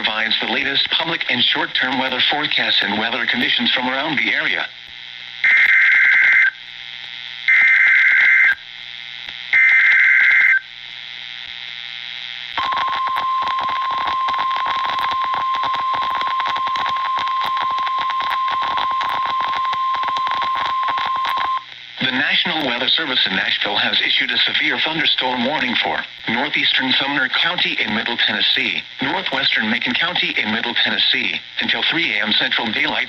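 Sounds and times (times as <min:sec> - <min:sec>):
crackling radio static: 0:00.0 - 0:33.0.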